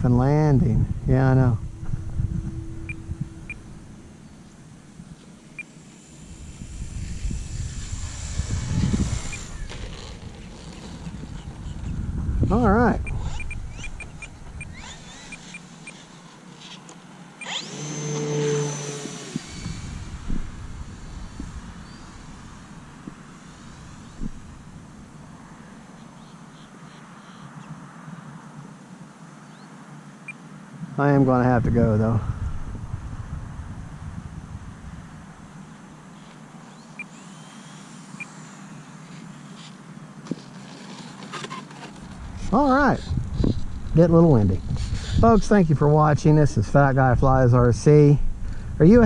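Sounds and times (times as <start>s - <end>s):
electric motor and propeller whine: 0.0s - 29.3s, 31.6s - 49.0s
wind hiss: 0.0s - 49.0s.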